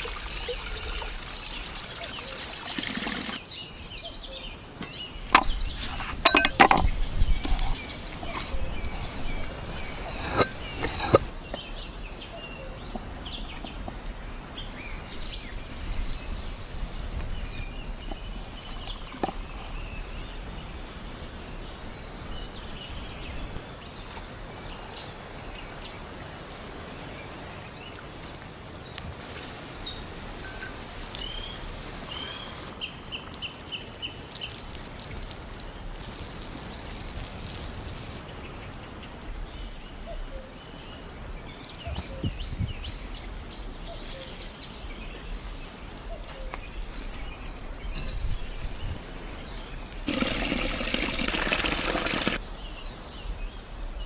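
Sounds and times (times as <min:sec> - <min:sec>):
outdoor background noise: 0:00.0 - 0:54.0
small birds chirping: 0:00.0 - 0:54.0.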